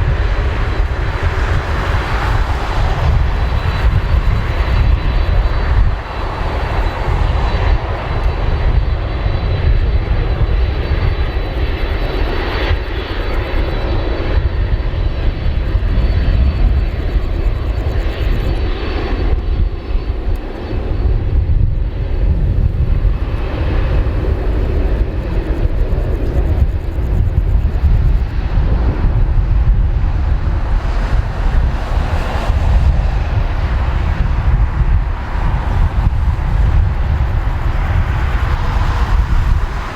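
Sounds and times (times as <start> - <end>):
jet engines at takeoff power: 0.0 - 39.9.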